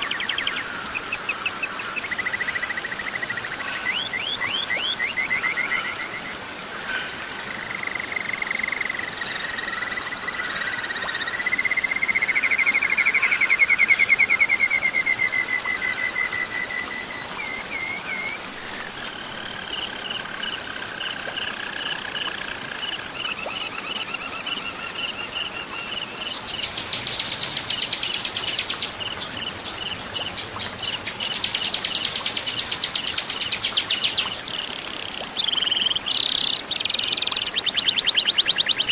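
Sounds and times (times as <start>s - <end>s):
songbirds singing trills: 0.0s - 6.3s, 7.8s - 19.0s, 22.9s - 38.9s
background hiss: 0.0s - 38.9s.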